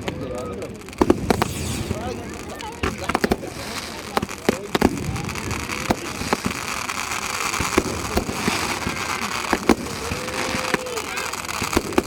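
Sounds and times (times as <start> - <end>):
fireworks bangs: 0.0 - 12.0
crackling hiss: 0.3 - 12.0.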